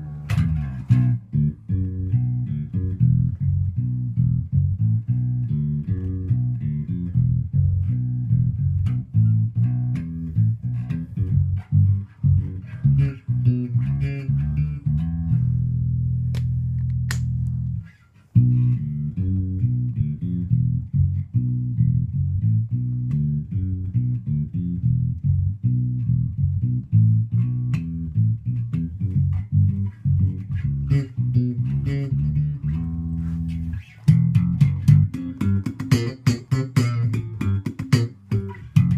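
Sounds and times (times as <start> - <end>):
bass guitar plucked notes: 0.0 - 38.9.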